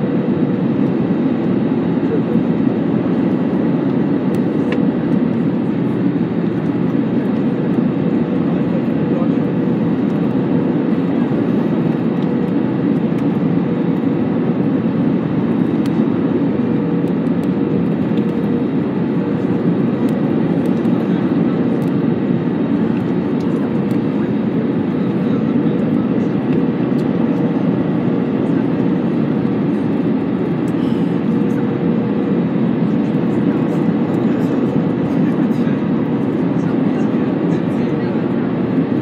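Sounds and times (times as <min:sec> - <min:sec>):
aircraft cabin engine rush: 0:00.0 - 0:39.0.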